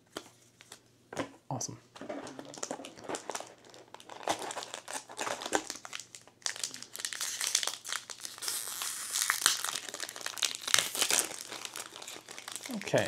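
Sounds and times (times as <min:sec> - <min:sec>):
foil wrapper crinkling: 0:02.3 - 0:13.0.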